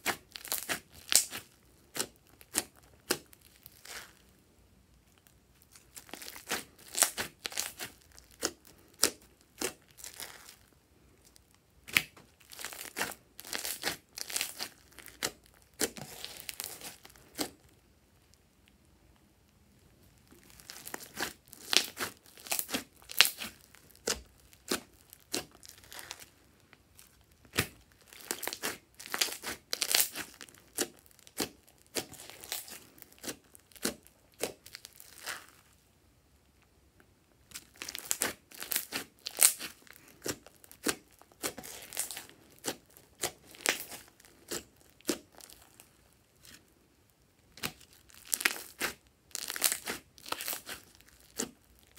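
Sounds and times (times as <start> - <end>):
crunchy slime crackling: 0.0 - 18.6, 19.4 - 35.9, 37.2 - 51.9.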